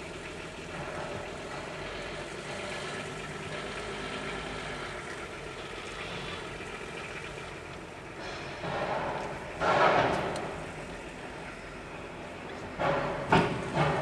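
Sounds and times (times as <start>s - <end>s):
car engine running at low speed: 0.0s - 14.0s.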